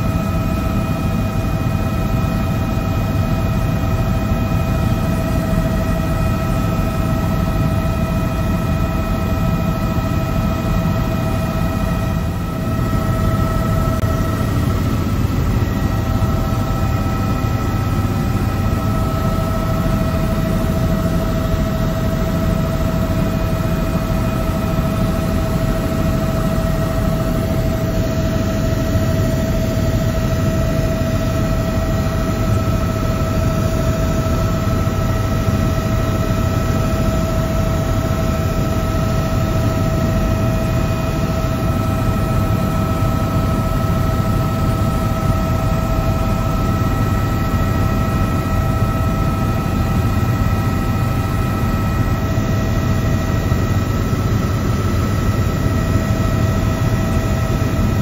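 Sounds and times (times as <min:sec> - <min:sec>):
helicopter engine and rotor rumble: 0:00.0 - 0:58.0
helicopter whine: 0:00.0 - 0:58.0.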